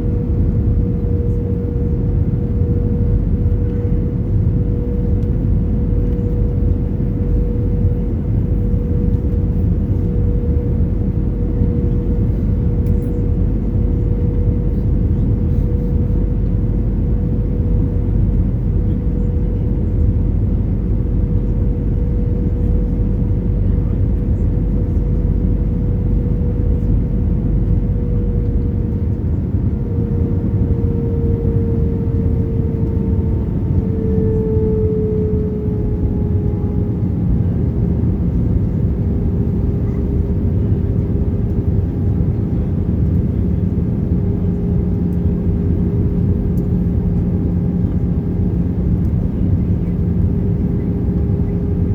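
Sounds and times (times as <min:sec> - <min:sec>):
jet engines and airflow roar: 0:00.0 - 0:51.9.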